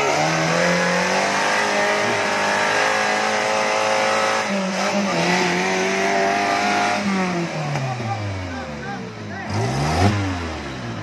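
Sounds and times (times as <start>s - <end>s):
off-road vehicle engine revving high: 0.0s - 11.0s.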